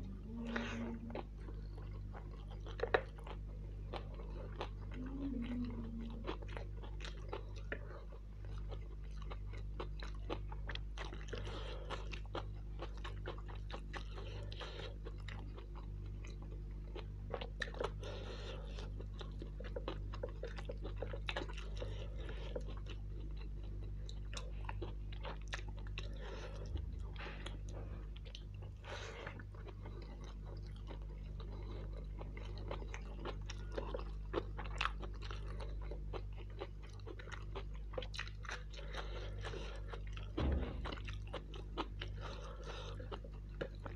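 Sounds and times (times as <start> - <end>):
steady low hum: 0.0 - 43.9
wet chewing with crunches: 0.0 - 43.9.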